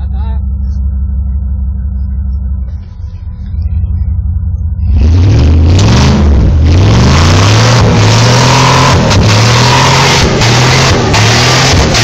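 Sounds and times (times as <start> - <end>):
car engine revving under load: 0.7 - 12.0.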